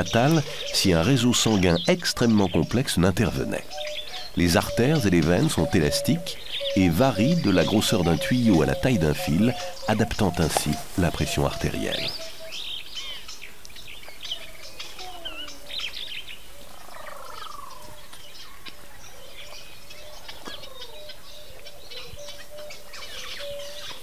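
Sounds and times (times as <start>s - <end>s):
birds chirping and whistling: 0.0s - 24.0s
faint outdoor background: 0.0s - 24.0s.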